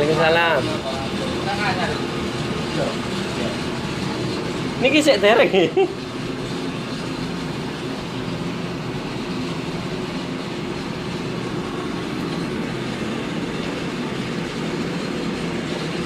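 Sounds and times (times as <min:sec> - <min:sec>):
stone crusher machine running: 0:00.0 - 0:16.0.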